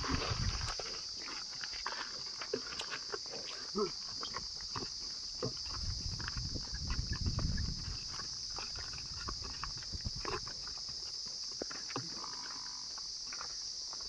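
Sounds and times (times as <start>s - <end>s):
high insect buzz: 0.0s - 14.0s
hoof steps on dirt path: 0.0s - 14.0s.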